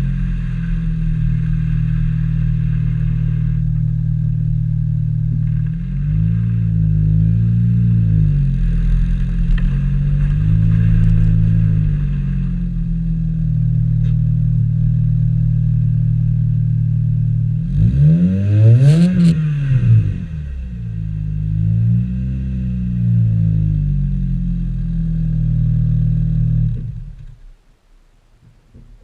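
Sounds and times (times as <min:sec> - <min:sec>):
car exhaust idling and revving: 0:00.0 - 0:29.0.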